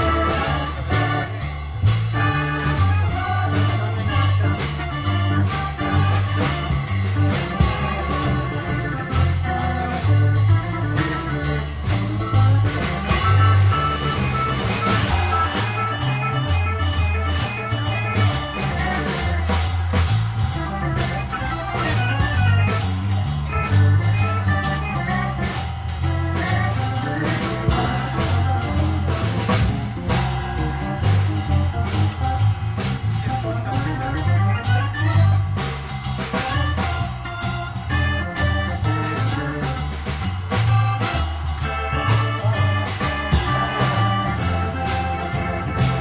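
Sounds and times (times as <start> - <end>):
drum kit keeping time: 0.0 - 46.0
low bass notes: 0.0 - 46.0
organ melody: 0.0 - 46.0.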